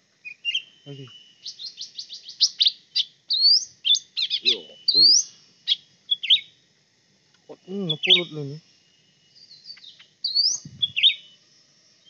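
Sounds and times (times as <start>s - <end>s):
birds chirping with trills and whistles: 0.0s - 12.0s.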